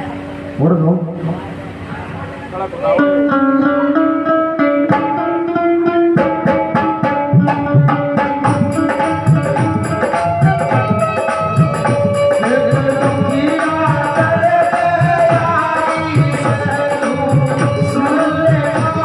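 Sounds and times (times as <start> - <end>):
held melody line: 0.0 - 19.0
hand drum beat: 3.0 - 19.0.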